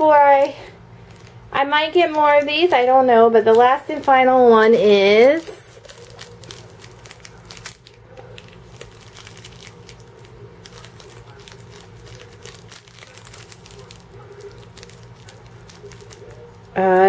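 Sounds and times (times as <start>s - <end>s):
low steady hum: 0.0s - 17.0s
plastic bag crinkling: 0.4s - 17.0s.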